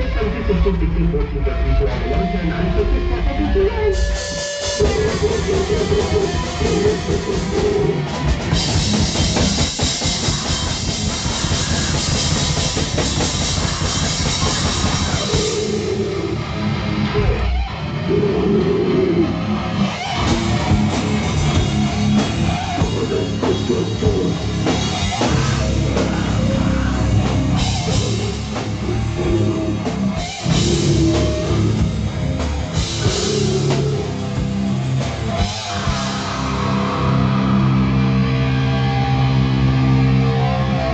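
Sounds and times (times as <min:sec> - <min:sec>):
distorted electric guitar: 0:00.0 - 0:40.9
drum kit: 0:00.0 - 0:40.9.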